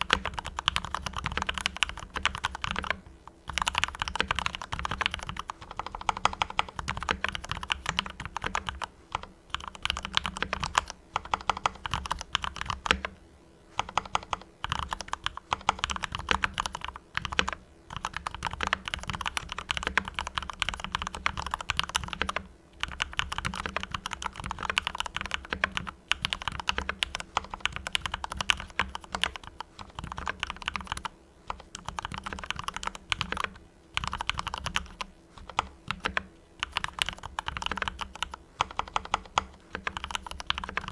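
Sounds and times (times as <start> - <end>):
fast typing on mechanical keyboard: 0.0 - 13.1, 13.8 - 40.9.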